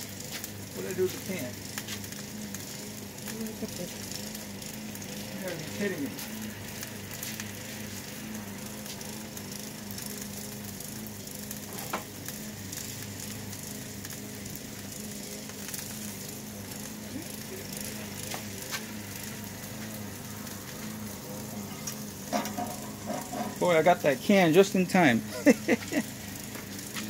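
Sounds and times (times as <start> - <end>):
burger patties sizzling: 0.0 - 27.0
low steady hum: 0.7 - 27.0.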